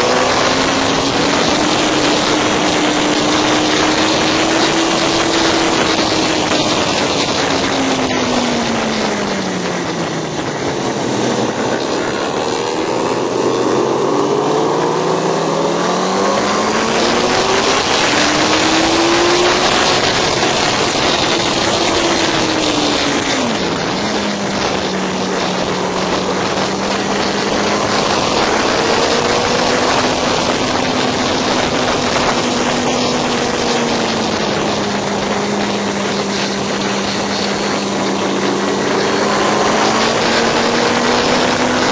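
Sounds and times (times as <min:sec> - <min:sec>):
heavy rush of wind: 0:00.0 - 0:41.9
motorcycle engine at racing speed: 0:00.0 - 0:41.9.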